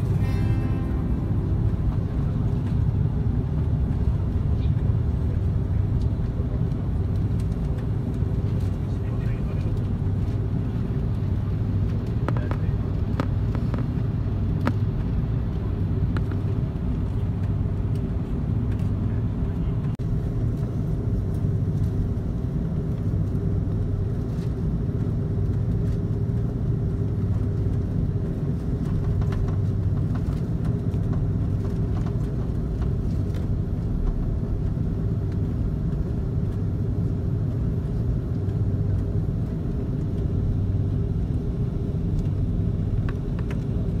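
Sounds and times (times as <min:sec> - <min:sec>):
jet engine drone in cabin: 0:00.0 - 0:44.0.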